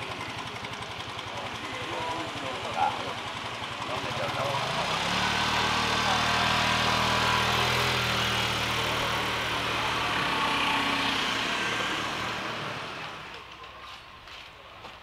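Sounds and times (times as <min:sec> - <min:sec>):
motor scooter engine pulling away: 0:00.0 - 0:14.0.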